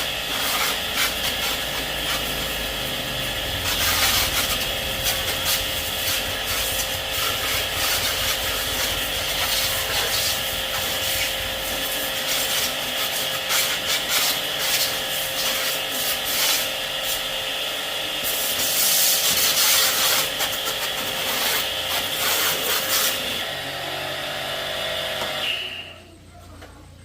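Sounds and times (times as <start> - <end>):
power tool sanding: 0.0 - 25.8.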